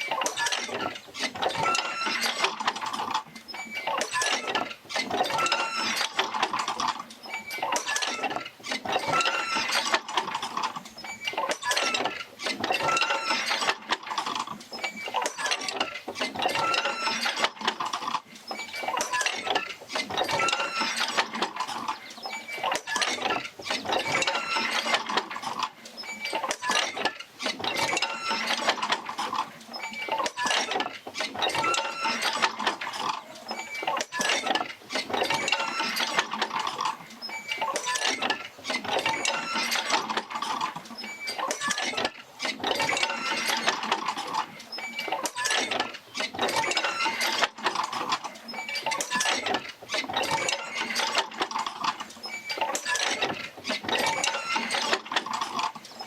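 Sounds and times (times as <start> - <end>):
field wheel creaking and clanking: 0.0 - 56.0.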